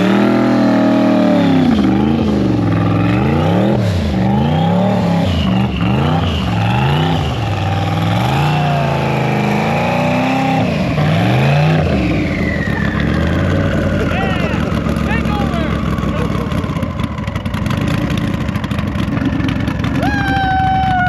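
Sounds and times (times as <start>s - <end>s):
car engine revving: 0.0s - 21.0s
high turbo whine: 0.0s - 21.0s.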